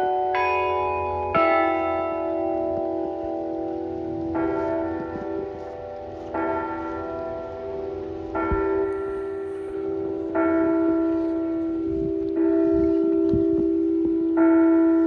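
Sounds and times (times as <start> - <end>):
tower bell tolling: 0.0 - 15.0.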